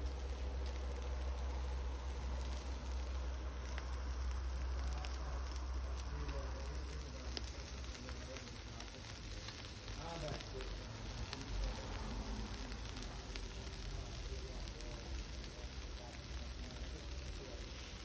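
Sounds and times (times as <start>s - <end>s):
sharp fire pops: 0.0s - 18.0s
wood fire crackling: 0.0s - 18.0s.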